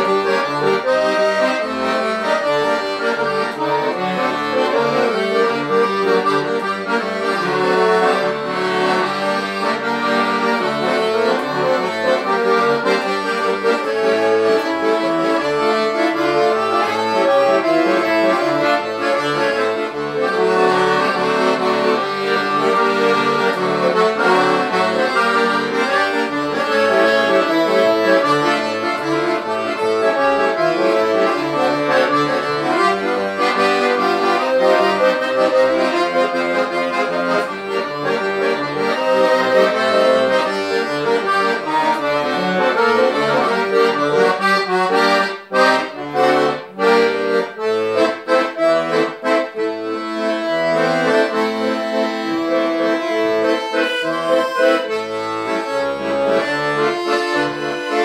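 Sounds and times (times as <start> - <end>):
piano accordion playing a tune: 0.0 - 58.0.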